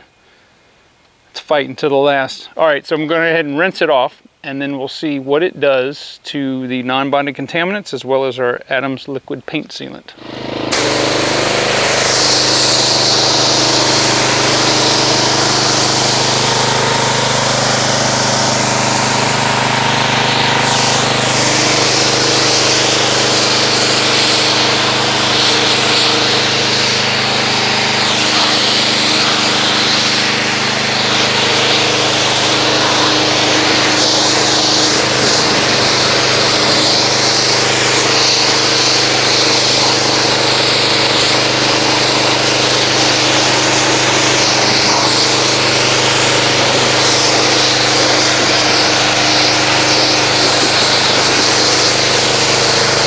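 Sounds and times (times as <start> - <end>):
pressure washer motor humming: 10.2 - 53.0
water spray hissing: 10.2 - 53.0.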